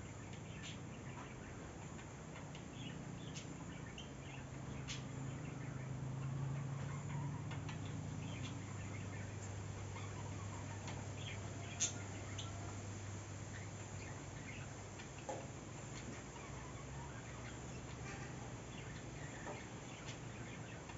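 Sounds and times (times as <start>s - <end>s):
low steady hum: 0.0s - 20.9s
chickens clucking: 0.2s - 20.9s.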